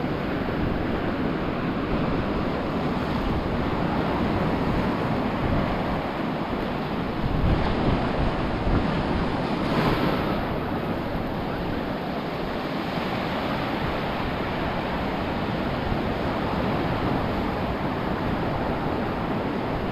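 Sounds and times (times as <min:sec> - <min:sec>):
ocean surf washing up beach: 0:00.0 - 0:19.9
wind buffeting microphone: 0:00.0 - 0:19.9.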